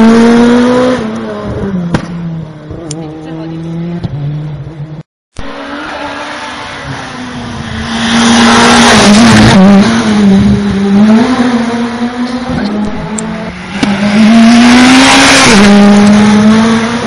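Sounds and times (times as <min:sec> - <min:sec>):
rally car passing at full throttle: 0:00.0 - 0:17.0.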